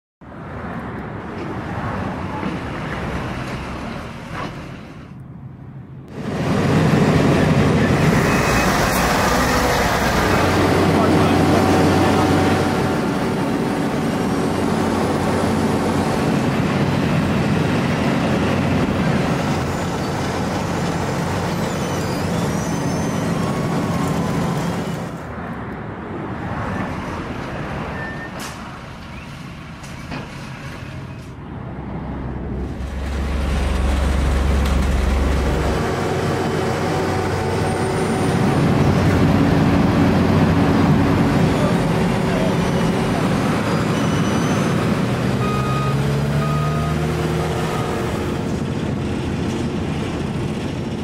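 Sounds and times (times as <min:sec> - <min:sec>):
diesel paving machinery running: 0:01.2 - 0:05.2, 0:06.0 - 0:25.4, 0:32.3 - 0:51.0.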